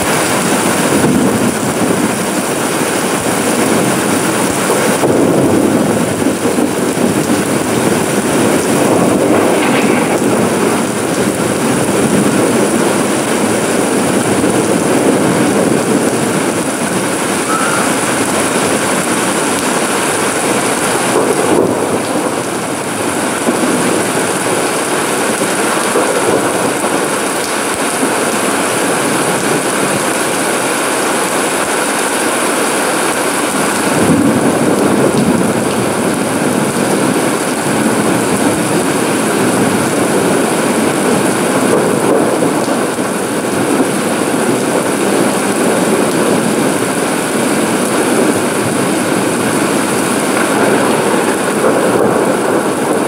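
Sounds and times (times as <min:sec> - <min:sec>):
heavy rain on paving: 0:00.0 - 0:53.0.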